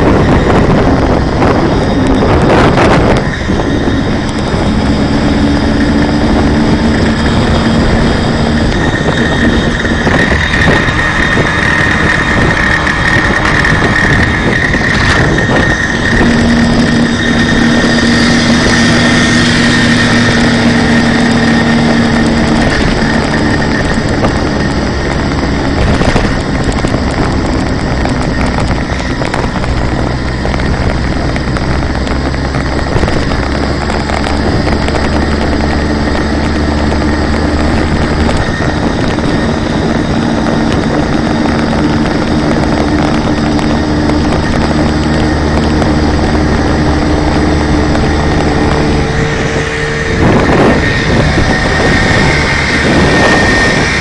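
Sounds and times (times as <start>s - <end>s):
moped two-stroke engine running: 0.0s - 54.0s.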